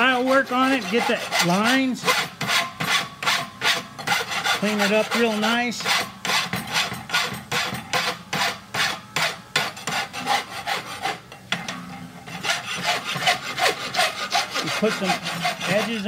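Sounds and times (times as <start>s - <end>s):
hand file rasping on metal: 0.0s - 11.3s, 12.2s - 16.0s.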